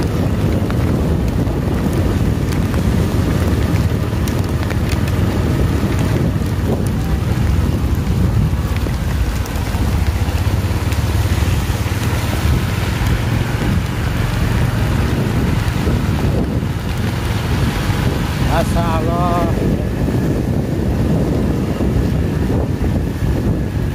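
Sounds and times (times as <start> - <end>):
heavy rain hissing: 0.0 - 23.8
wind buffeting microphone: 0.0 - 23.9.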